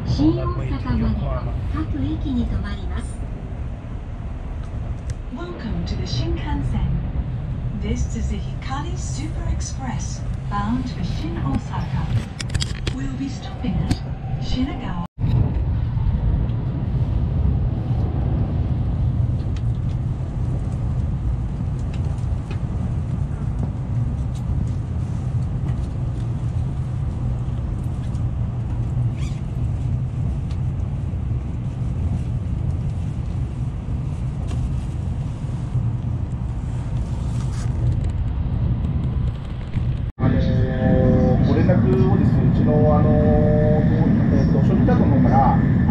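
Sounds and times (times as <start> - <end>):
train rumbling at speed: 0.0 - 45.9.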